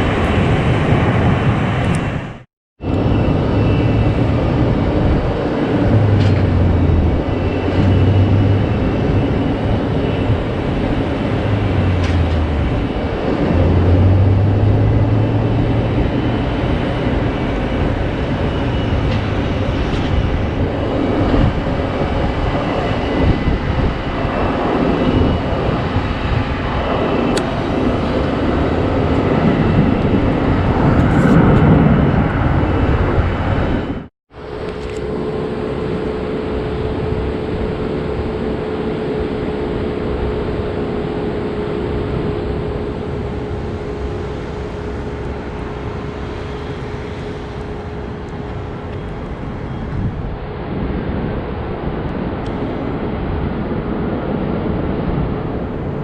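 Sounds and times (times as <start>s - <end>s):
jet engines running: 0.0s - 56.0s
low hum: 0.0s - 56.0s.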